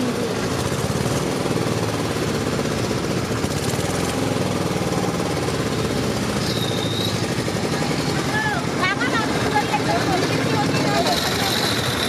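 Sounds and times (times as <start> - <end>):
outboard motor chugging: 0.0 - 12.0.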